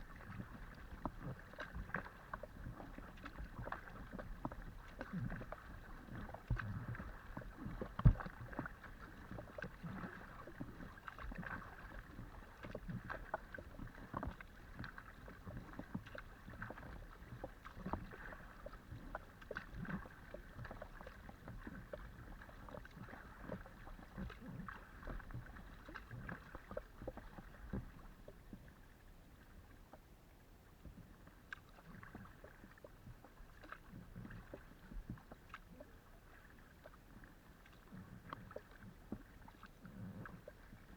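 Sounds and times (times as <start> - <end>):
paddle splashing in water: 0.0 - 40.9.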